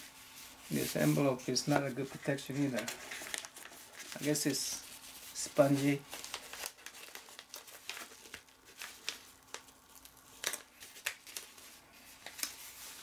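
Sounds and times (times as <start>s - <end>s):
paper envelope crinkling: 0.4s - 13.0s.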